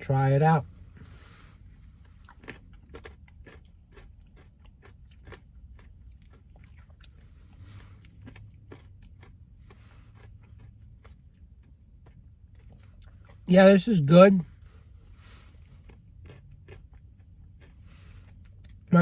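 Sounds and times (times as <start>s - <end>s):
person chewing crunchy food: 1.0s - 13.5s, 15.1s - 19.0s.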